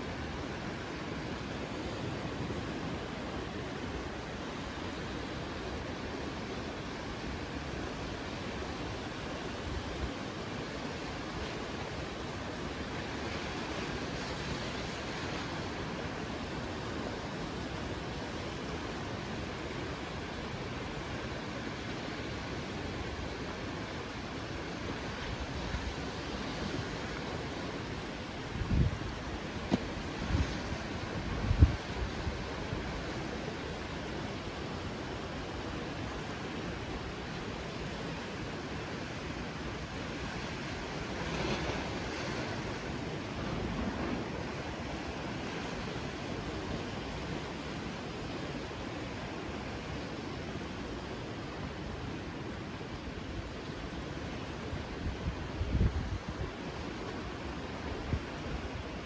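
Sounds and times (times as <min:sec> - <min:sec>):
sea surf: 0:00.0 - 0:59.0
wind: 0:00.0 - 0:59.0.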